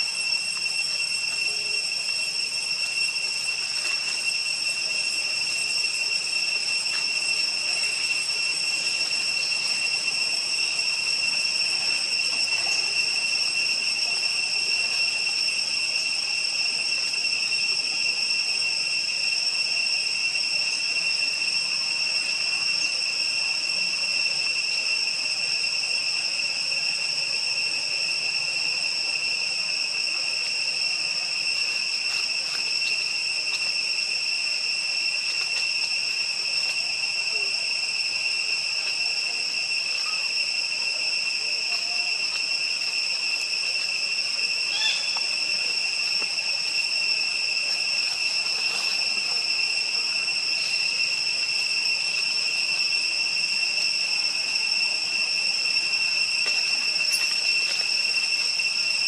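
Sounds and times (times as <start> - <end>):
insect chorus drone: 0.0 - 59.0.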